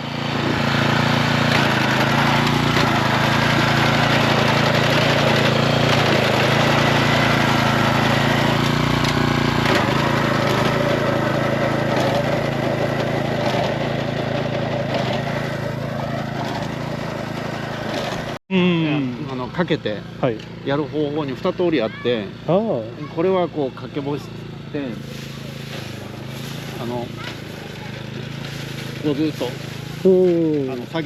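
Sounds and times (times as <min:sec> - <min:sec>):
small engine running steadily: 0:00.0 - 0:31.0.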